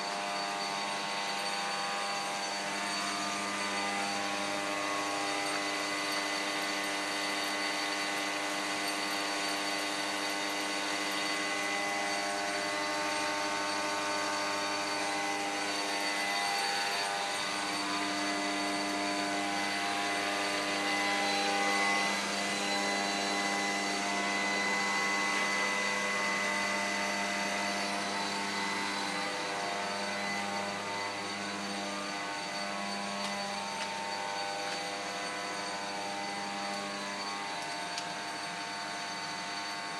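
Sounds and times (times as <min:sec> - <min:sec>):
electric motor humming: 0:00.0 - 0:39.9.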